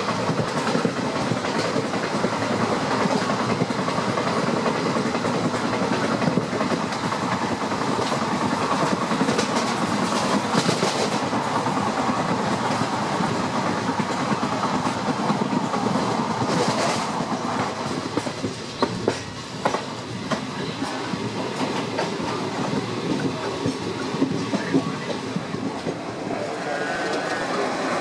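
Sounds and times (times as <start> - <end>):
wheels clicking over rail joints: 0.0 - 26.1
train rumbling on track: 0.0 - 28.0.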